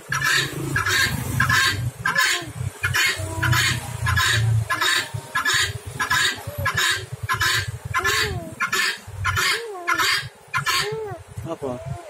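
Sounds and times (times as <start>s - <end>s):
guineafowl calling harshly: 0.0s - 11.0s.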